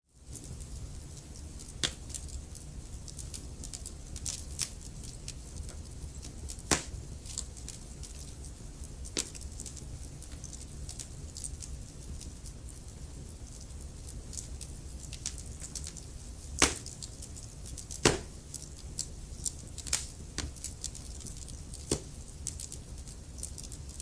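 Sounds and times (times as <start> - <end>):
fire flames rumbling: 0.3 - 24.0
logs crackling and popping: 0.3 - 24.0.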